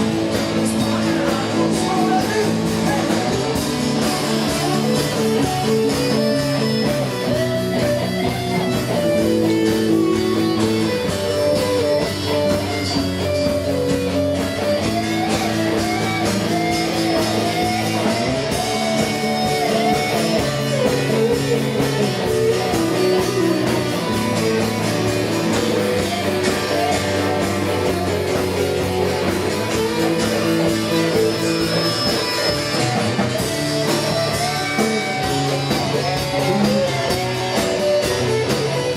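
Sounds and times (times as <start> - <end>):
live band playing instrumental: 0.0 - 38.9
strummed guitar: 0.0 - 38.9.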